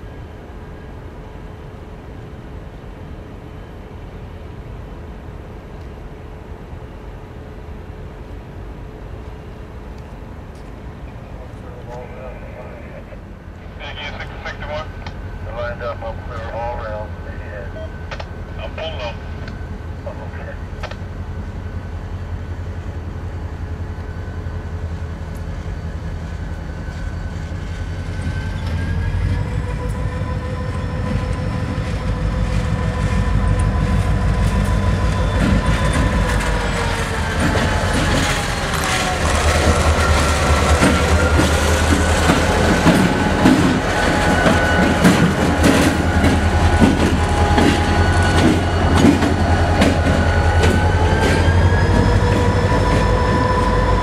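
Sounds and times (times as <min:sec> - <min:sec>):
diesel locomotive engine: 0:00.0 - 0:54.0.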